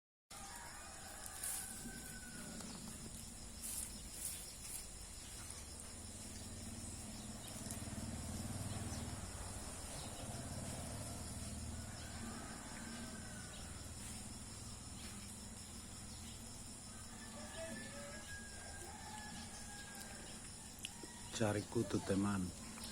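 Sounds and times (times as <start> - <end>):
insects buzzing: 0.3 - 22.9.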